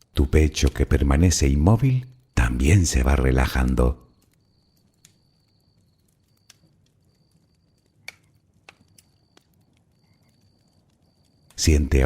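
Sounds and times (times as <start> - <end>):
bonfire crackling: 0.0 - 12.0
fire pops and snaps: 0.0 - 12.0.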